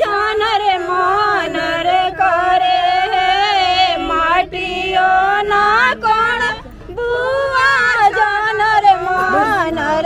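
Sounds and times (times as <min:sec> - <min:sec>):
woman singing folk song: 0:00.0 - 0:10.0.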